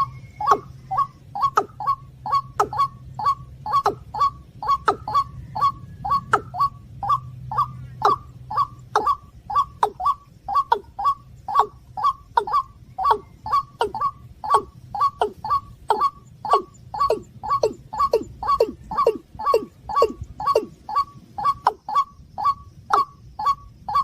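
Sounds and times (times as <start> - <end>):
steady low hum: 0.0 - 24.0
waterhen calls: 0.0 - 24.0.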